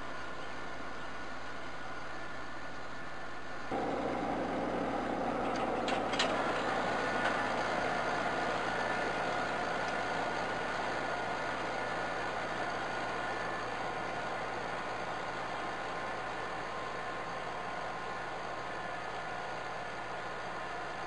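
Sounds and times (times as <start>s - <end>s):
tractor diesel engine under load: 3.7s - 21.0s.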